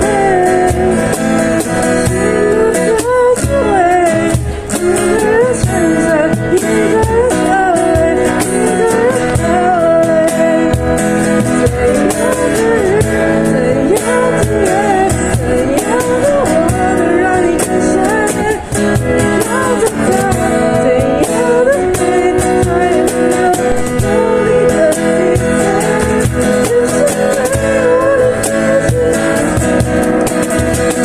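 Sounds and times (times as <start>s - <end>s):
instrumental pop music: 0.0s - 31.0s.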